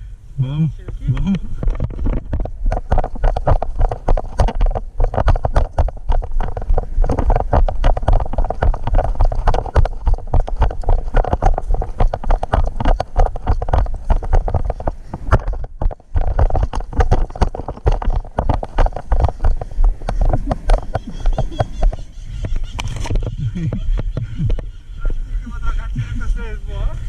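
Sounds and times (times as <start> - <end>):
running footsteps: 0.8 - 26.4.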